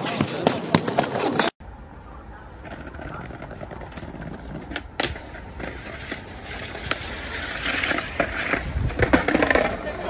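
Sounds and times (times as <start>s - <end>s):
skateboard clicks and knocks: 0.0s - 1.6s, 2.5s - 10.0s
faint outdoor background: 0.0s - 10.0s.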